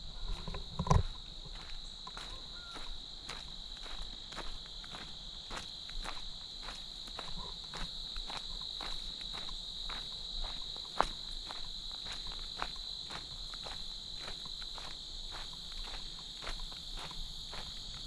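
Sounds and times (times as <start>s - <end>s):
footsteps on a trail: 0.0s - 18.0s
high-pitched insect chorus: 0.0s - 18.0s.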